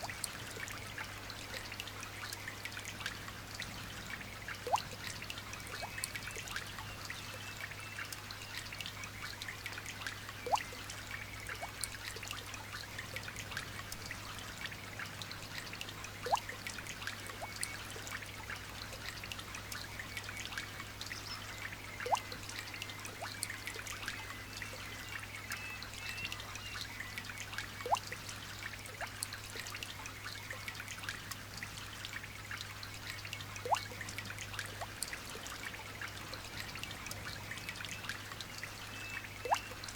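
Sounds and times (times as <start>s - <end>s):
light rain dripping: 0.0s - 39.9s.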